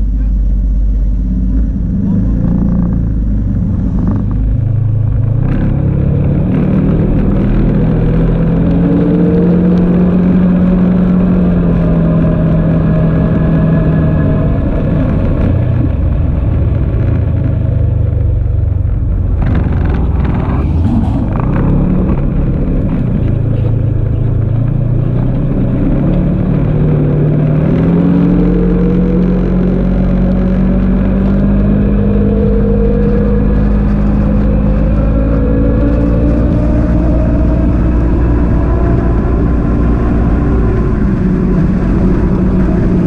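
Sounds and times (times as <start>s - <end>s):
off-road vehicle engine rumbling: 0.0s - 43.0s.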